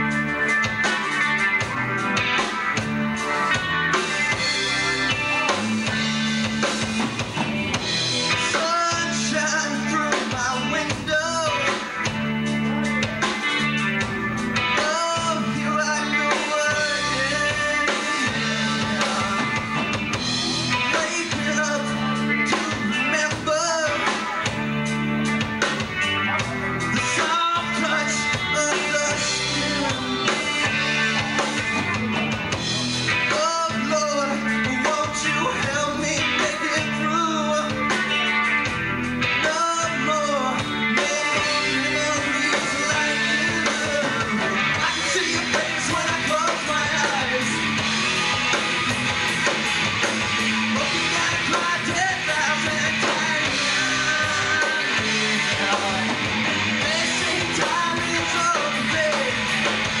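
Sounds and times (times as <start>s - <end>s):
bass guitar: 0.0s - 60.0s
drums: 0.0s - 60.0s
electric guitars: 0.0s - 60.0s
man singing lead: 0.0s - 60.0s.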